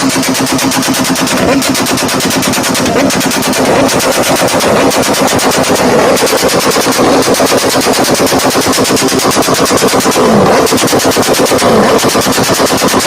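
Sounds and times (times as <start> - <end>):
motorcycle exhaust popping rattle: 0.0 - 13.0.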